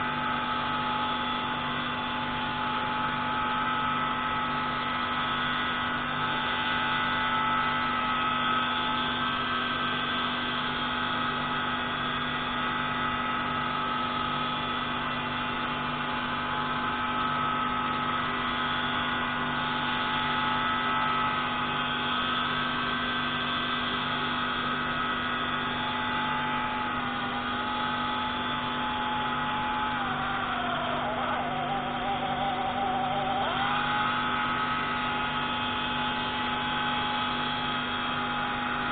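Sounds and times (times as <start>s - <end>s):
pneumatic grinder whining: 0.0s - 38.9s.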